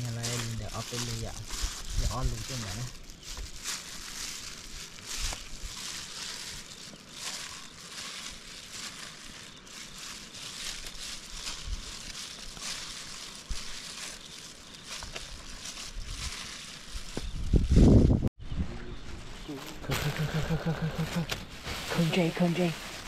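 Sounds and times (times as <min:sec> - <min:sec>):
plastic glove and leaves rustling: 0:00.0 - 0:18.3, 0:19.0 - 0:23.0.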